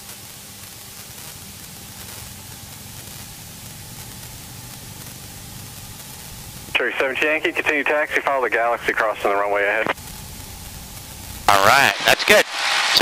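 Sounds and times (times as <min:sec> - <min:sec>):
even hiss: 0:00.0 - 0:13.0
aircraft piston engine droning: 0:01.4 - 0:13.0.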